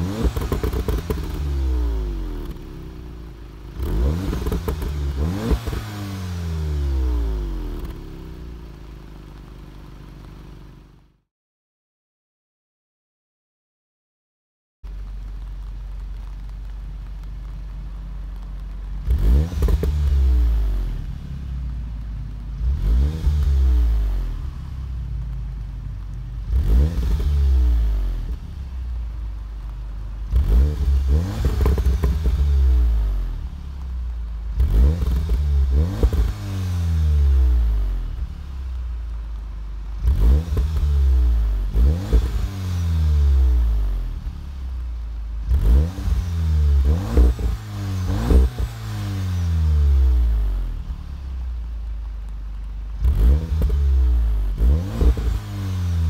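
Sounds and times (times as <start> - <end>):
car exhaust revving: 0.0 - 10.9, 15.0 - 56.0
exhaust crackles: 0.0 - 11.2, 14.8 - 56.0.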